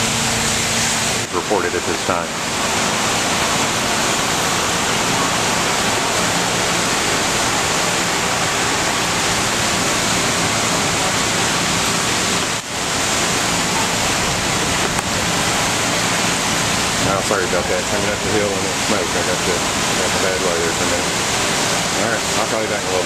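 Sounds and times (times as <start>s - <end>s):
fire hoses spraying water: 0.0s - 23.0s.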